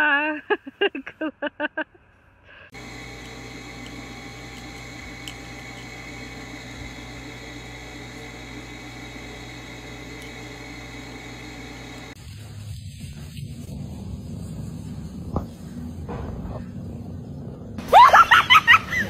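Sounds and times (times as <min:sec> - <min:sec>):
appliance humming with hiss: 0:02.7 - 0:19.0.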